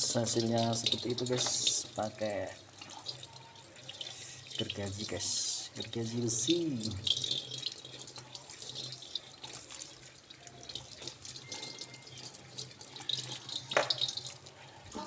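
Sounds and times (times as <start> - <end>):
tap water running into a sink: 0.0 - 15.0.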